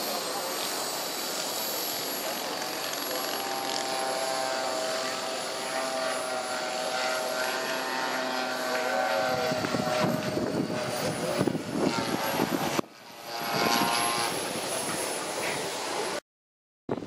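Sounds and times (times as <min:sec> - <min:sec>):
model airplane engine droning: 0:00.0 - 0:16.2.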